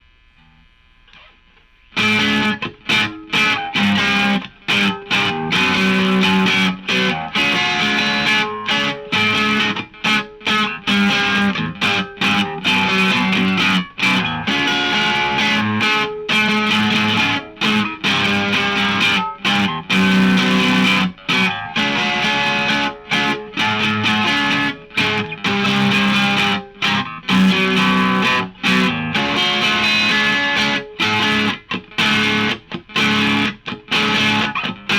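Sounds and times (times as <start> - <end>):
distorted electric guitar chords: 0.1 - 34.9.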